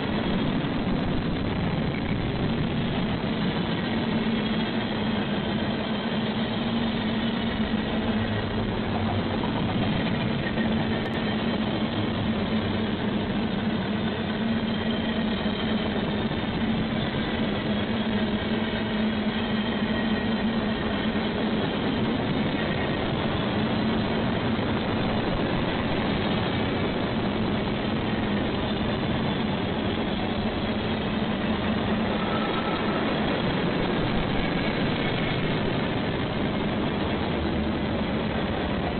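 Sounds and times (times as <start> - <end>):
train engine hum: 0.0 - 38.9
train rushing sound: 0.0 - 38.9.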